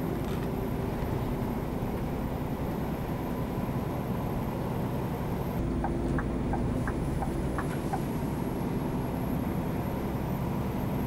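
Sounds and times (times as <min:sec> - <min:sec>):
truck engine drone: 0:00.0 - 0:11.0
tyre and road noise: 0:00.0 - 0:11.0.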